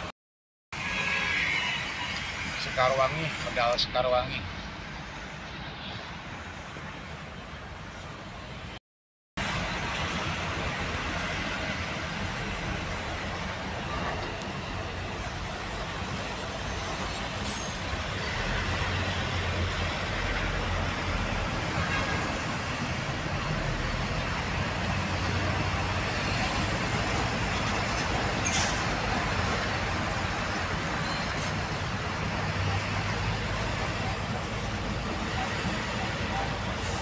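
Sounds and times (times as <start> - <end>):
road noise: 0.7 - 8.8, 9.4 - 37.0.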